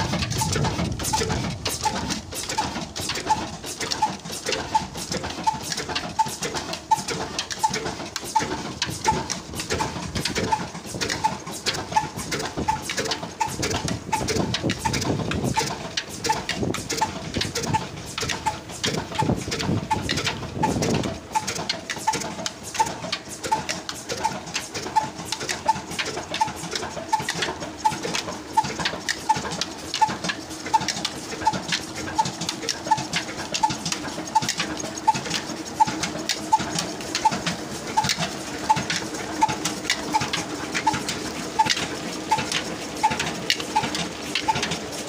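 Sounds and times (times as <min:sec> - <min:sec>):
diesel engine running slowly: 0:00.0 - 0:45.0.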